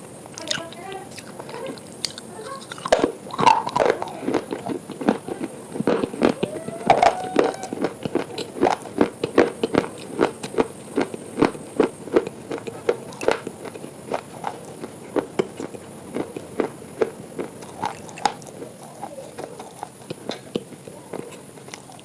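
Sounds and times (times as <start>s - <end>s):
crisp food crunching: 0.3s - 22.0s.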